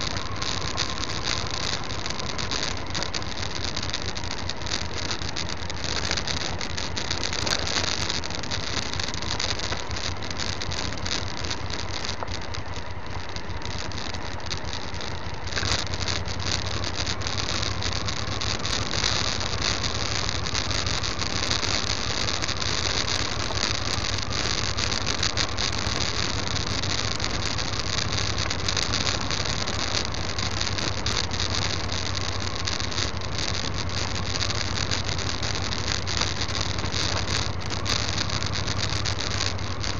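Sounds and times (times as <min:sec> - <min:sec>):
gravel rattling under tyres: 0:00.0 - 0:39.9
motorcycle engine: 0:00.0 - 0:39.9.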